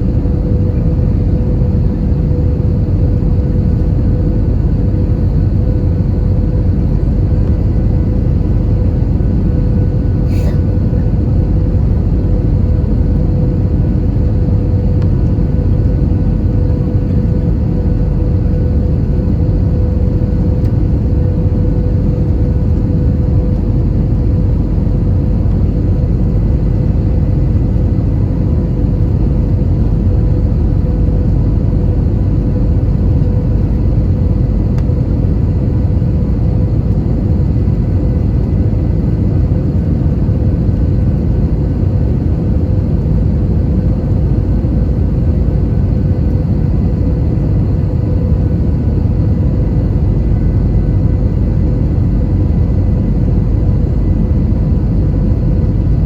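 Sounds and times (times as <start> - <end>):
aircraft cabin rumble: 0.0 - 56.0
faint constant hum: 0.0 - 56.0.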